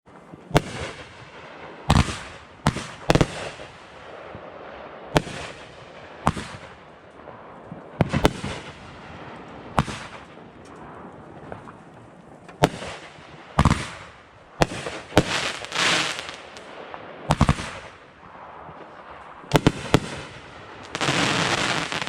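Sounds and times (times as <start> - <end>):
fireworks bangs: 0.1 - 22.0.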